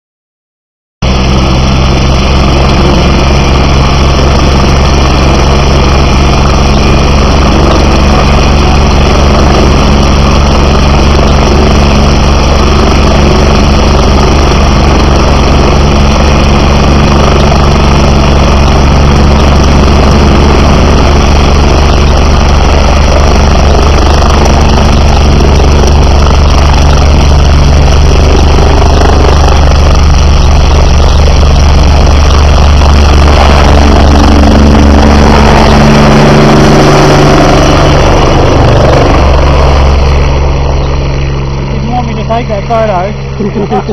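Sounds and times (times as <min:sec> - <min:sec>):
helicopter rotor and turbine: 0:01.0 - 0:43.9.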